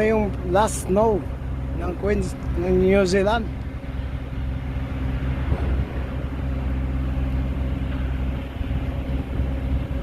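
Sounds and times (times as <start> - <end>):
motor vehicle engine hum: 0.0 - 10.0
rushing background noise: 0.0 - 10.0.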